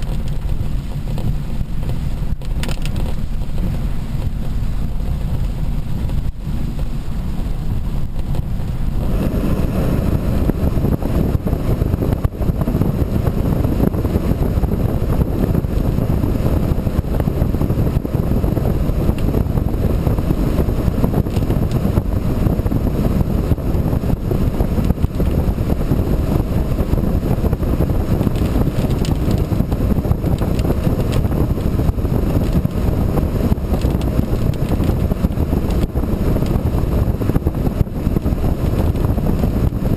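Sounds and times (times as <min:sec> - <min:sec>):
moving vehicle noise: 0:00.0 - 0:39.9
wind buffeting microphone: 0:00.0 - 0:39.9.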